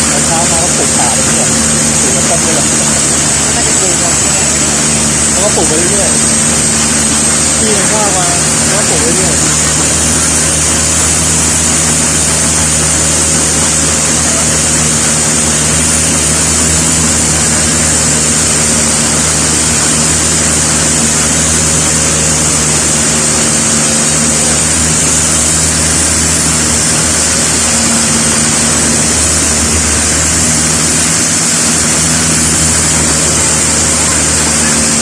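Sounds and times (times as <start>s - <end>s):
hiss of water and wind: 0.0s - 35.0s
motorboat engine running: 0.0s - 35.0s.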